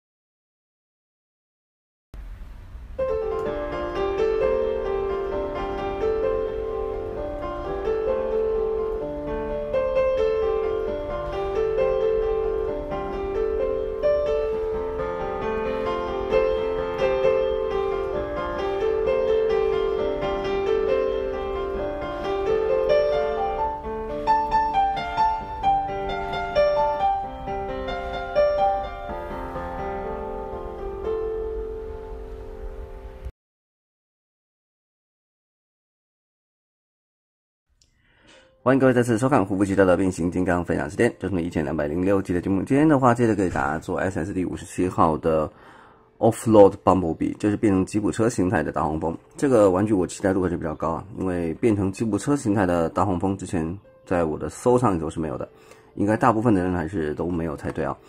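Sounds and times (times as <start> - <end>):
piano music: 2.9 - 33.3, 38.6 - 58.0.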